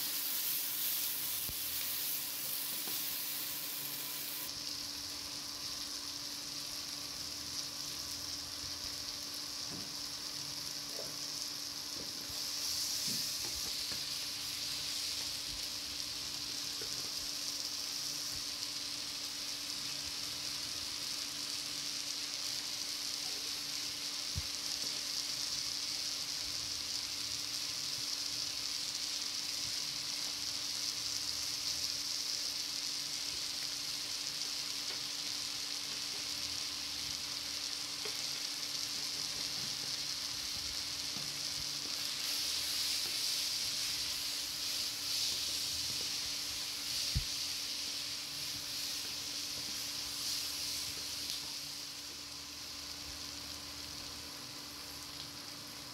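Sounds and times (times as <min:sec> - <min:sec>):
vegetables sizzling in hot oil: 0:00.0 - 0:55.9.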